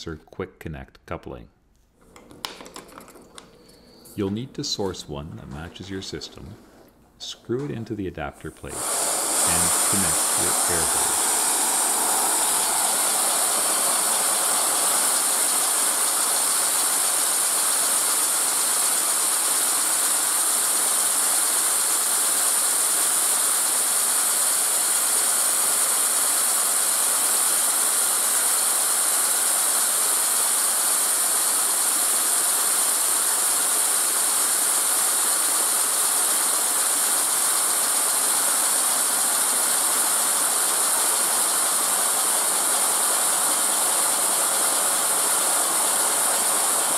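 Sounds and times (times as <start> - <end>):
compressed air hissing: 2.1 - 7.4, 8.4 - 46.9
model steam engine mechanism: 8.4 - 46.9.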